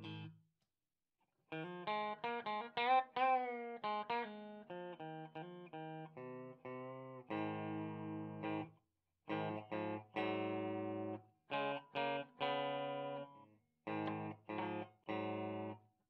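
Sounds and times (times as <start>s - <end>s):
electric guitar chords: 0.0s - 0.3s, 1.5s - 8.7s, 9.3s - 15.8s.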